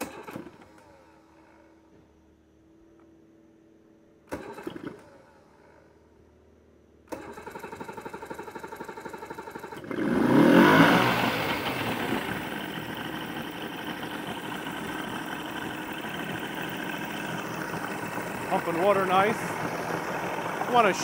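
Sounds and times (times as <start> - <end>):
outboard motor cranking and running: 0.0 - 1.8, 4.3 - 5.8, 7.1 - 21.0.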